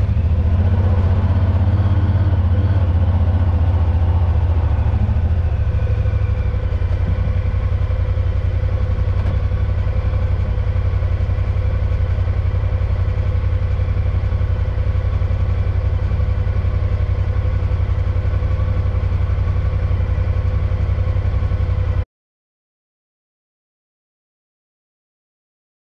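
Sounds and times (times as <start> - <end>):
utility vehicle engine idling: 0.0 - 22.0.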